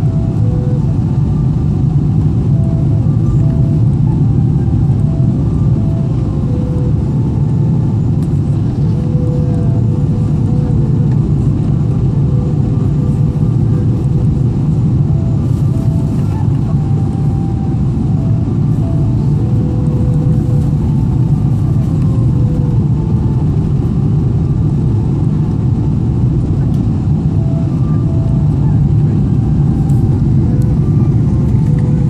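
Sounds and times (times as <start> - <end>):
airplane cabin engine roar: 0.0 - 32.0.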